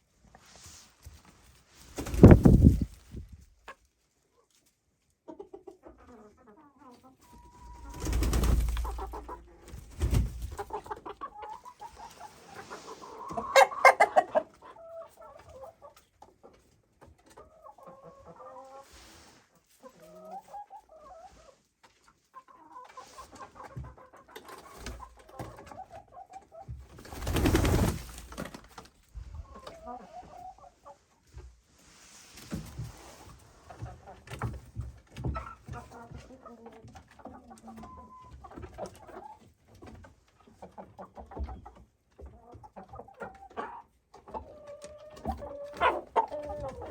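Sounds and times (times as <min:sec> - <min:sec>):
chickens clucking: 0:02.0 - 0:31.7, 0:32.4 - 0:46.9.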